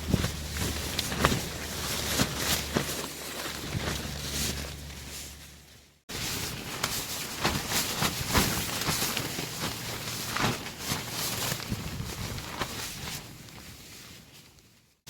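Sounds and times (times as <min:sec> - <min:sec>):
tent walls flapping: 0:00.0 - 0:14.8.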